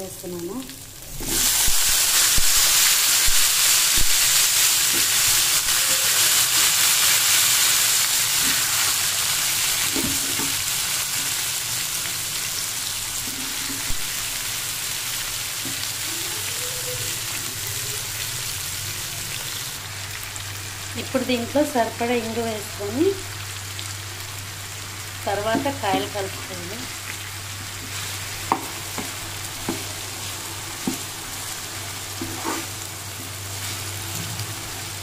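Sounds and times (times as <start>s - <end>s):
hot oil sizzling loudly: 0.0s - 35.0s.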